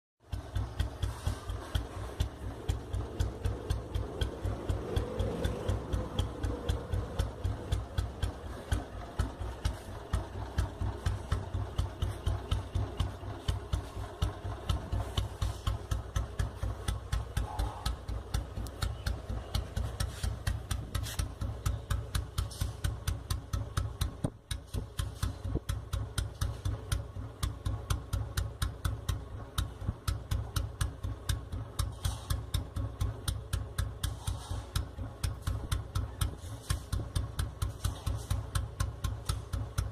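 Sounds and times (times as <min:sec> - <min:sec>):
motorcycle engine idling: 0:00.2 - 0:39.9.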